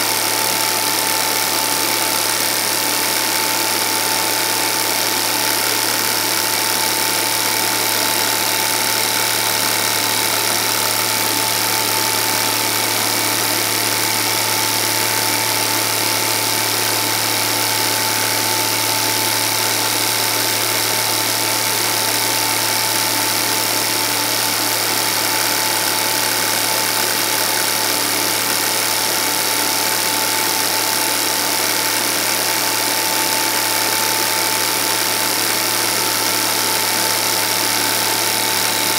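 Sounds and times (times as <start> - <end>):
film projector running: 0.0 - 38.9.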